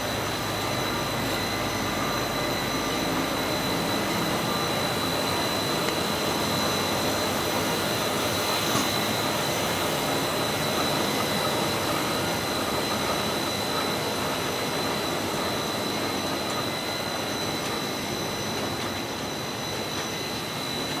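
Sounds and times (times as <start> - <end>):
high whine: 0.0 - 21.0
printing press mechanical hum: 0.0 - 21.0.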